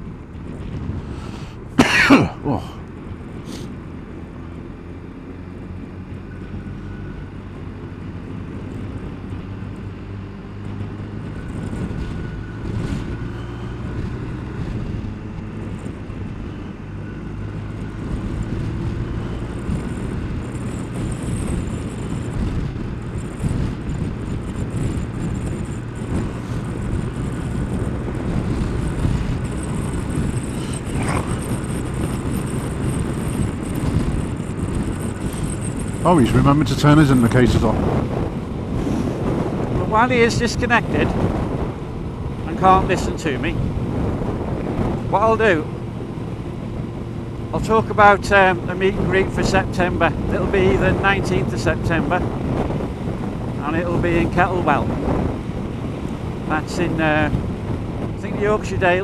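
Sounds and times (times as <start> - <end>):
wind and road rush: 0.0 - 59.0
motorcycle engine accelerating: 2.5 - 59.0.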